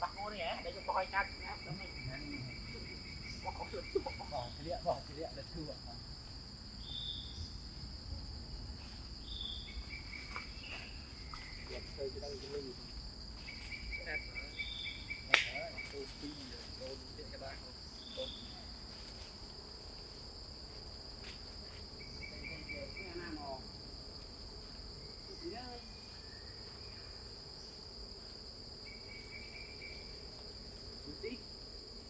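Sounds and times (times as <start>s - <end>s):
forest insects droning: 0.0s - 32.0s.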